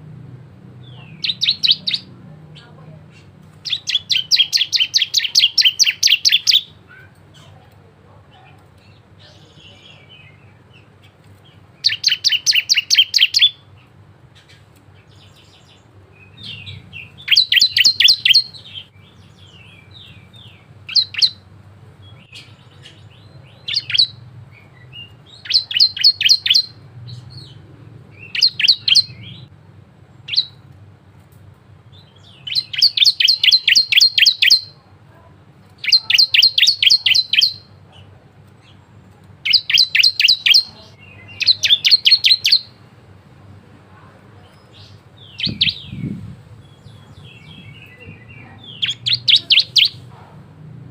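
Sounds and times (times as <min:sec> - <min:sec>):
bird high chirping song: 0:00.8 - 0:07.6, 0:08.7 - 0:30.7, 0:31.8 - 0:34.8, 0:35.8 - 0:42.9, 0:44.4 - 0:50.2.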